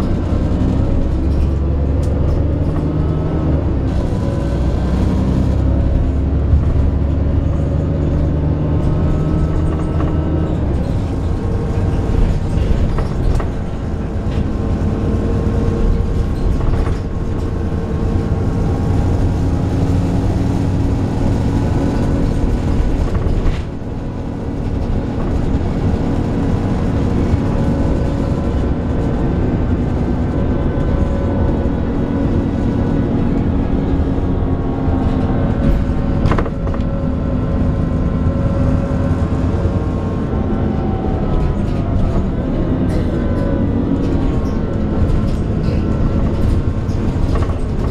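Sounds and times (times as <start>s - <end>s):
bus engine groaning: 0.0s - 47.9s.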